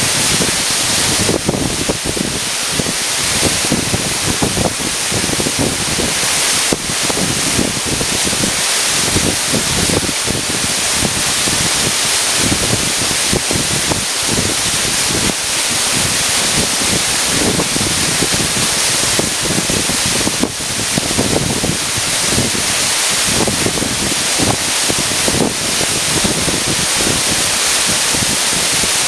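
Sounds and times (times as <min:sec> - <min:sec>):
waterfall crashing: 0:00.0 - 0:29.0
wind buffeting microphone: 0:00.0 - 0:29.0.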